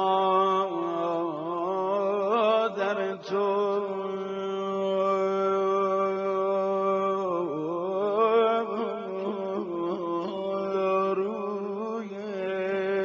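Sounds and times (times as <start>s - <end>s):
man singing devotional elegy: 0.0s - 13.0s.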